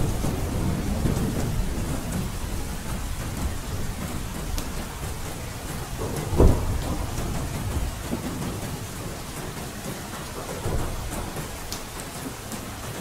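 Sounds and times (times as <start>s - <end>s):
thunder rumbling: 0.0s - 11.7s
steady rain falling: 0.0s - 13.0s.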